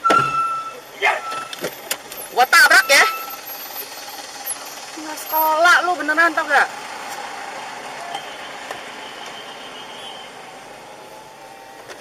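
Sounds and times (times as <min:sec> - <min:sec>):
road traffic inside a car: 0:00.0 - 0:12.0.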